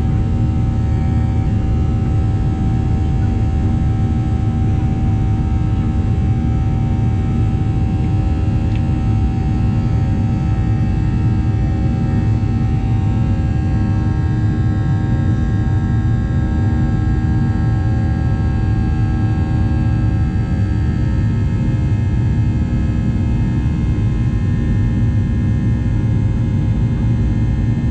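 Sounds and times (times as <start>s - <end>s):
steady hum tones: 0.0s - 24.3s
jet engine and airflow rumble: 0.0s - 27.9s.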